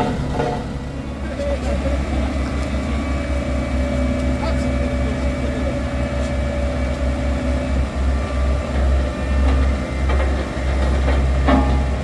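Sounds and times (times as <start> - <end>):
heavy engine pulsing rumble: 0.0 - 12.0
higher engine tone: 0.0 - 12.0.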